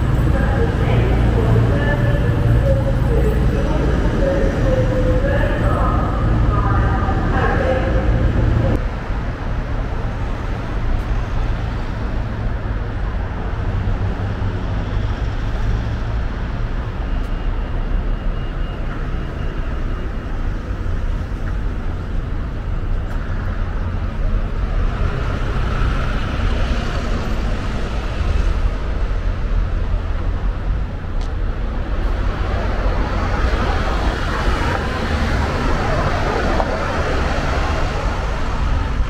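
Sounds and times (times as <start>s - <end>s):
road traffic rumbling: 0.0s - 39.0s
vehicles passing: 0.0s - 39.0s.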